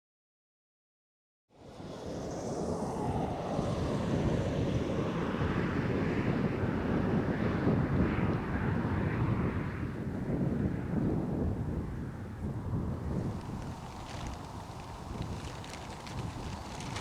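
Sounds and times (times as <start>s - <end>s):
wind buffeting microphone: 2.7s - 17.0s.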